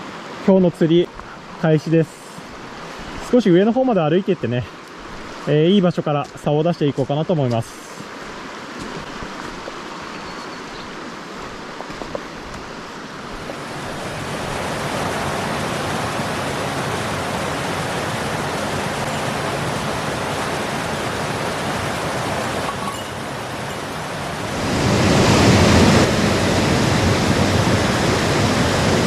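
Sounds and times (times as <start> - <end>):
rushing stream water: 0.0 - 29.0.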